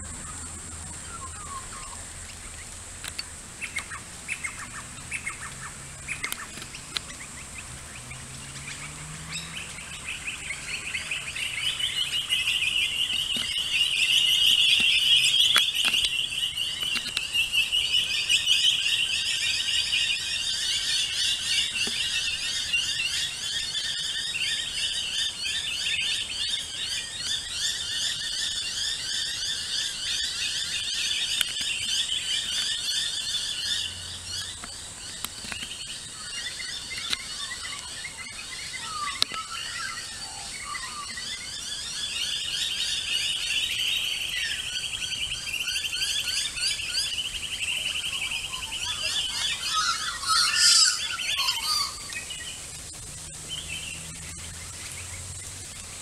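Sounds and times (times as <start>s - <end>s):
birds alarm chatter: 0.0s - 56.0s.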